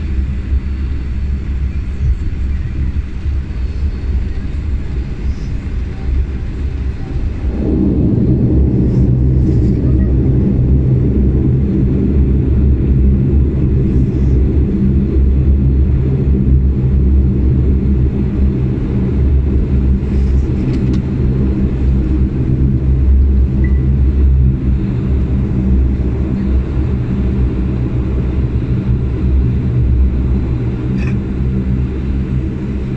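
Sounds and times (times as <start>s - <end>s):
turboprop engines droning: 0.0s - 32.9s.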